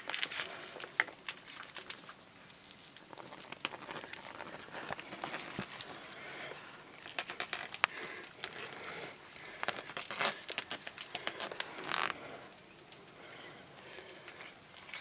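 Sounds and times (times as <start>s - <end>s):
cat gnawing on stick: 0.0s - 15.0s.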